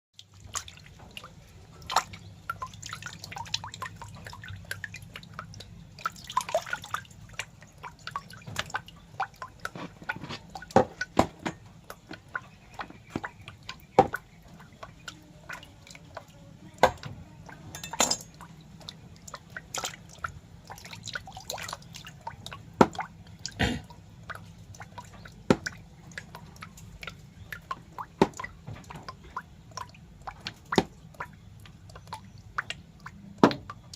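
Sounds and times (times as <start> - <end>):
low steady hum: 0.2 - 33.9
wet clicks and drip-like ticks: 0.2 - 33.9.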